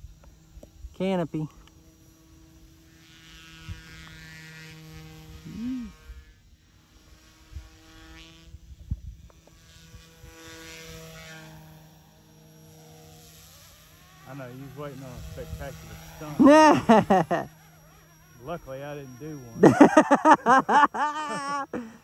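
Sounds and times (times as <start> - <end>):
rc helicopter motor whine: 0.0 - 22.0.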